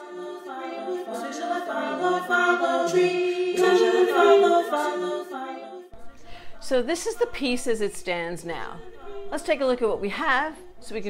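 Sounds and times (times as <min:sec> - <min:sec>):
a cappella singing: 0:00.0 - 0:11.0.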